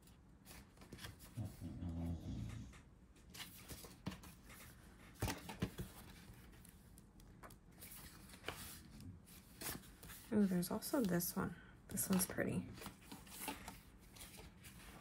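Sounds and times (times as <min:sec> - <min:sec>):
paper rustling: 0:00.0 - 0:01.4, 0:03.2 - 0:11.2, 0:12.0 - 0:15.0.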